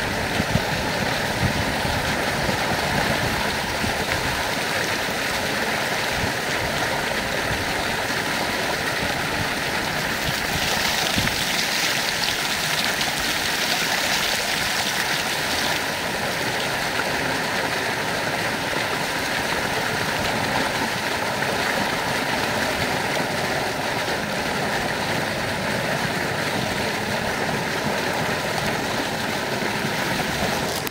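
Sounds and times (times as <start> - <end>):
water gushing and splashing: 0.0 - 30.9.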